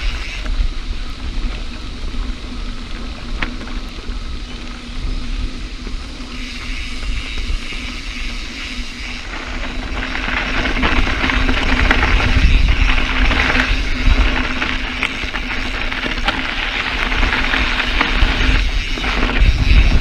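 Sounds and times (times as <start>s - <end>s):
bike clicks and rattles: 0.0s - 20.0s
bike tyres crunching on gravel: 0.0s - 20.0s
wind on microphone: 0.0s - 20.0s.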